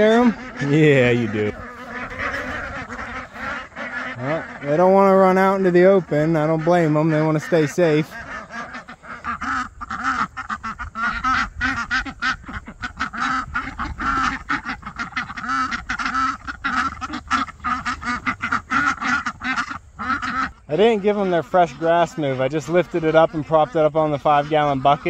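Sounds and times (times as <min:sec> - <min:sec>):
young ducks quacking: 0:00.0 - 0:25.0.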